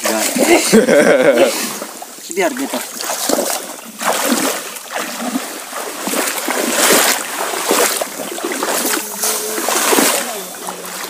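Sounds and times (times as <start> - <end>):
wading through shallow water: 0.0 - 11.0.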